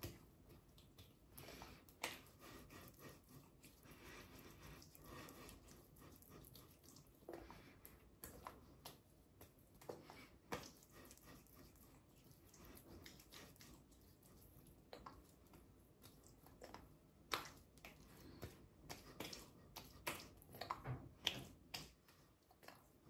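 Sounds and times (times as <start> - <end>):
hands rubbing skin: 0.0 - 20.5.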